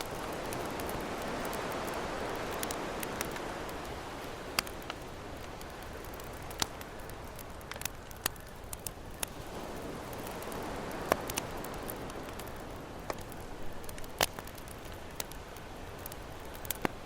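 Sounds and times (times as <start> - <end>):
campfire crackling: 0.0 - 17.0
ocean waves: 0.0 - 17.0.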